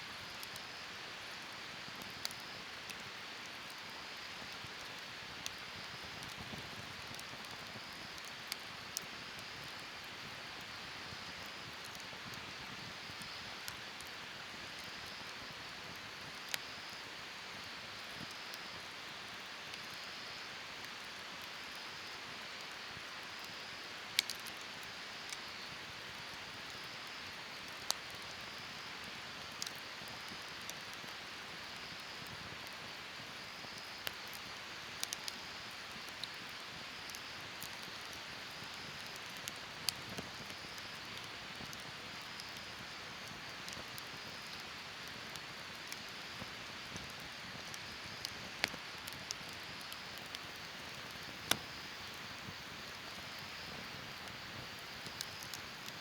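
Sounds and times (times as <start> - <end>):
campfire crackling and popping: 0.2 - 0.6, 1.2 - 56.0.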